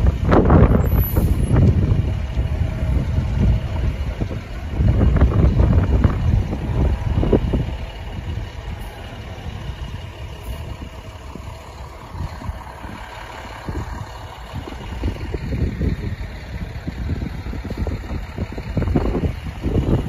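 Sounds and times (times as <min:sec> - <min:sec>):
truck diesel engine rumble: 0:00.0 - 0:20.0.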